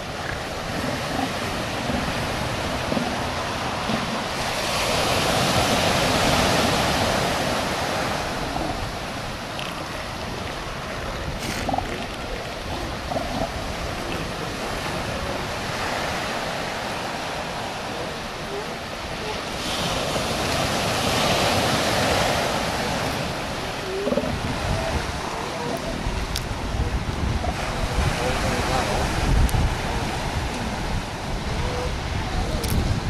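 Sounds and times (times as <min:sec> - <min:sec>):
surf breaking on a beach: 0:00.0 - 0:33.0
wind on microphone: 0:00.0 - 0:33.0.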